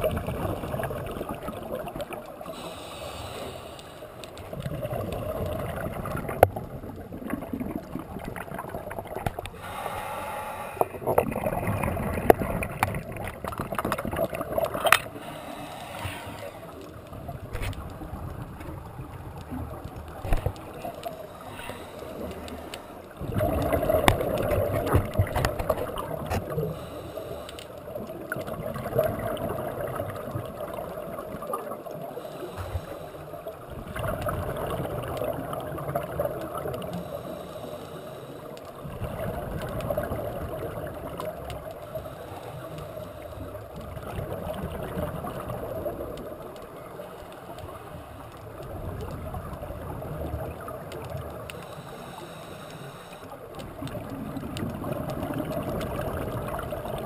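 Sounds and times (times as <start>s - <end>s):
underwater bubbles gurgling: 0.0s - 57.0s.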